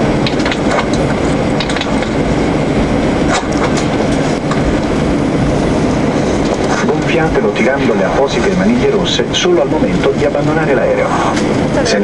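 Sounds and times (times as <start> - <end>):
aircraft engines and wheels rumbling: 0.0 - 12.0.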